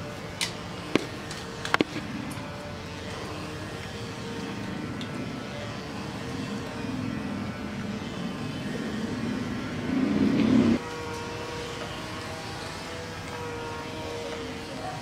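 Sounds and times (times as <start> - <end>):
model plane propeller whirring: 0.0 - 15.0.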